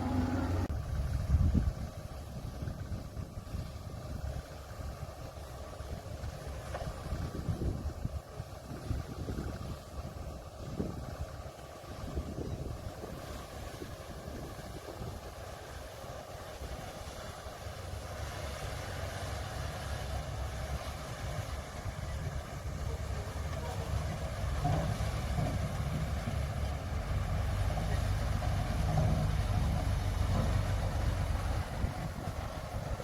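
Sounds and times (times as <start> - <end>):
diesel machinery engine rumble: 0.0 - 33.0.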